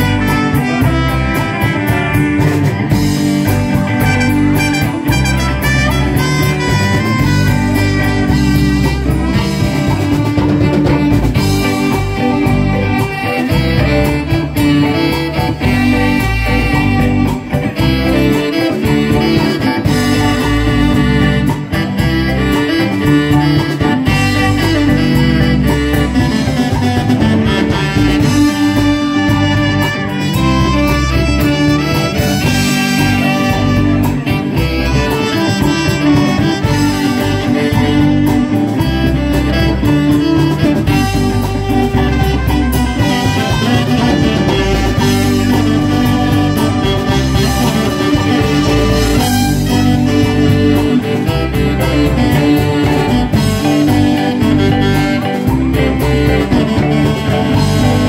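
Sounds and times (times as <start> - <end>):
bass line: 0.0 - 58.0
electric guitars: 0.0 - 58.0
keyboard: 0.0 - 58.0
trumpet: 0.0 - 58.0.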